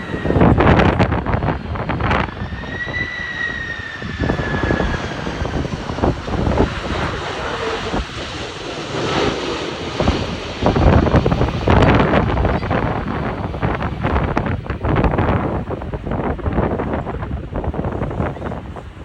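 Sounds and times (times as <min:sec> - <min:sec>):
jet engines roaring with whine: 0:00.0 - 0:19.0
wind buffeting microphone: 0:00.0 - 0:19.0.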